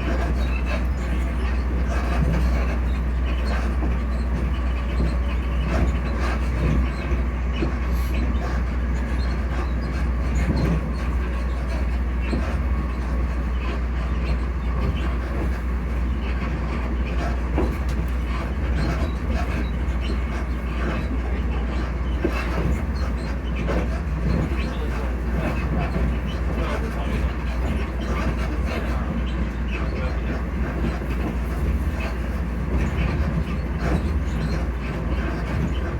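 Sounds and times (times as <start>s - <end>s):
traction motor hum: 0.0s - 35.9s
train wheels rumbling on rail: 0.0s - 35.9s.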